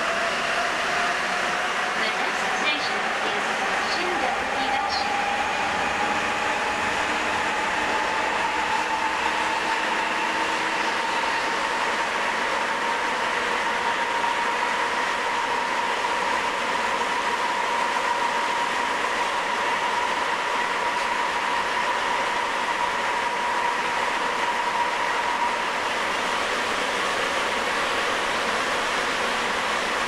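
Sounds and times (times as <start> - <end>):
steady train whine: 0.0 - 30.0
train running with rushing noise: 0.0 - 30.0.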